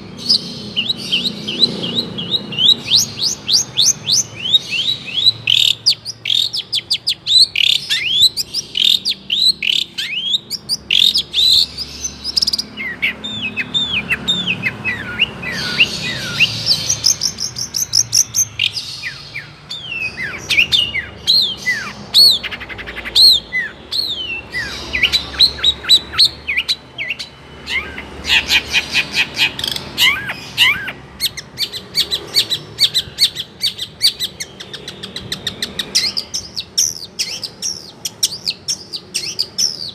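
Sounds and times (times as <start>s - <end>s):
bird twittering trills: 0.0s - 39.9s
shrike singing chirps and whistles: 0.0s - 39.9s.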